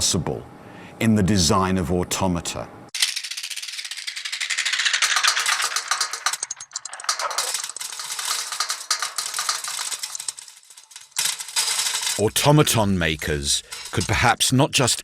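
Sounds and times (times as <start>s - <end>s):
clockwork gear clicking: 3.0s - 15.0s.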